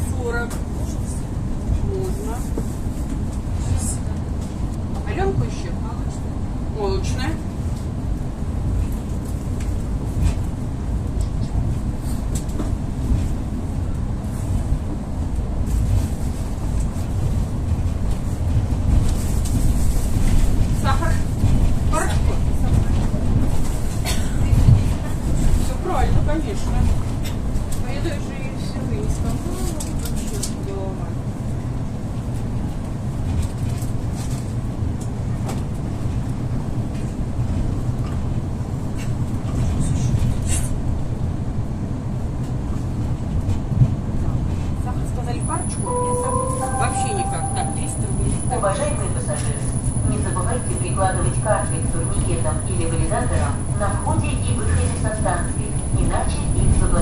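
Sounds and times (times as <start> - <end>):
train wheels rumbling: 0.0 - 40.8, 42.0 - 57.0.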